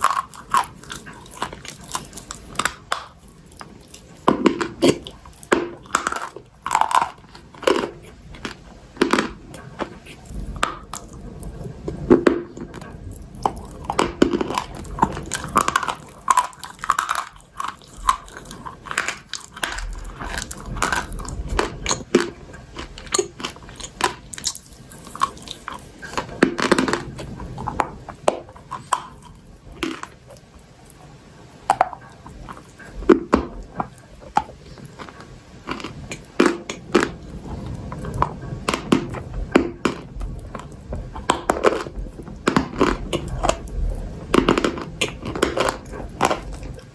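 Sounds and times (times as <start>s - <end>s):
crunching and chewing chalk: 0.0s - 46.9s.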